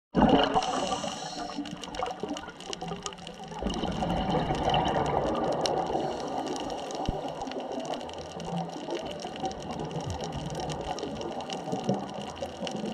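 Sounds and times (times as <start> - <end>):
underwater bubbling: 0.1 - 12.9
crackle of small clicks: 0.2 - 12.9.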